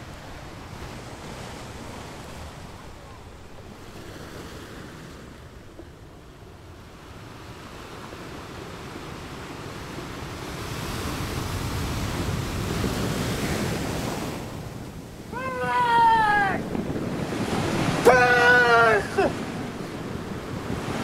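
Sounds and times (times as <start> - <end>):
sea surf wave: 0.0 - 21.0
wind: 0.0 - 21.0.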